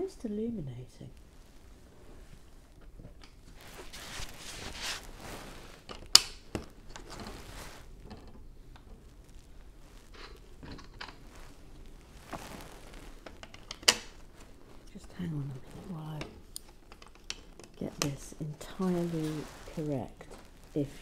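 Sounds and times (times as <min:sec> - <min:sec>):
nylon jacket rustling: 0:01.2 - 0:10.6, 0:11.2 - 0:21.0.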